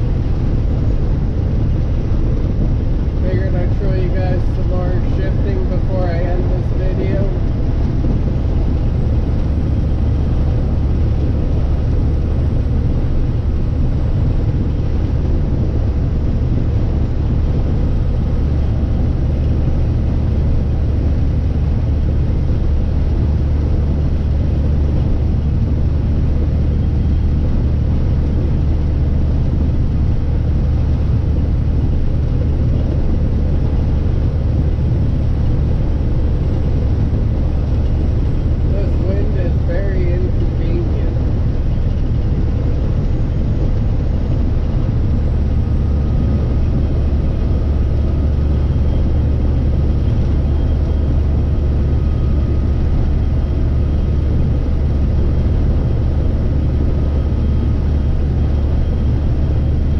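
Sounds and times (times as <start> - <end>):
diesel truck engine drone: 0.0 - 59.9
road noise: 0.0 - 59.9.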